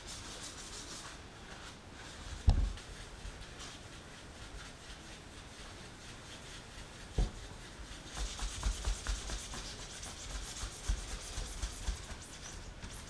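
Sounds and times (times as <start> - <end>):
cloth rubbing on metal: 0.0 - 13.0.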